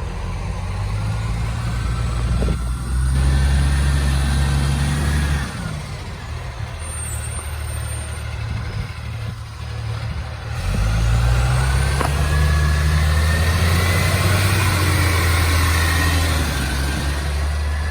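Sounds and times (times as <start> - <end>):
diesel engine with exhaust leak: 0.0 - 17.9.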